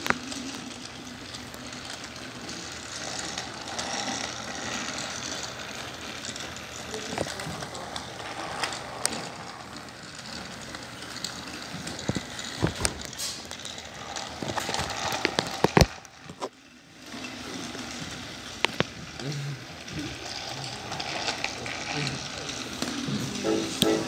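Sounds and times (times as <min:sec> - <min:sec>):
toy train motor whirring: 0:00.0 - 0:24.0
toy train wheels clattering: 0:00.0 - 0:24.0.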